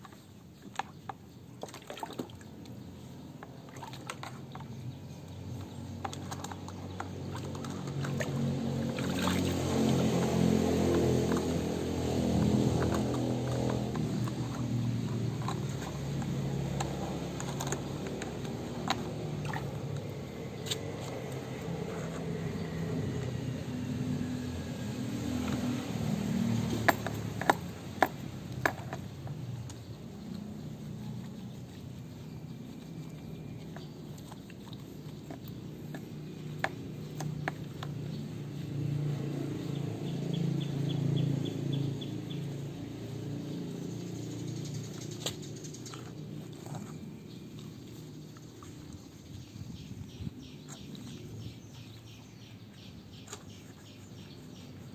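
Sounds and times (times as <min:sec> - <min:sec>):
wet clicks and squelches: 0:00.0 - 0:49.5.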